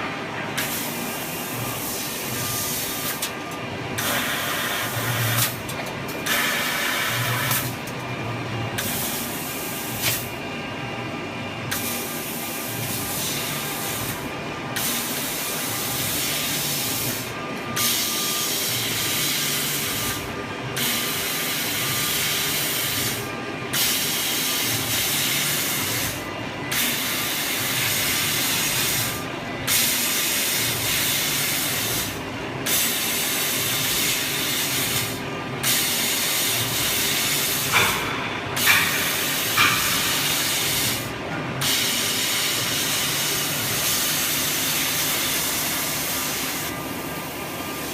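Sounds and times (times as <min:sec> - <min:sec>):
laser cutter hissing: 0:00.6 - 0:03.4, 0:04.0 - 0:07.8, 0:08.8 - 0:10.4, 0:11.7 - 0:47.9.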